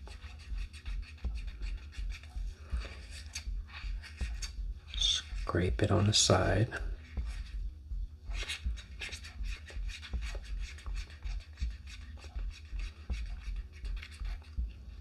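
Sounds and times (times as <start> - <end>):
stir stick scraping a cup: 0.0 - 7.6, 8.3 - 15.0.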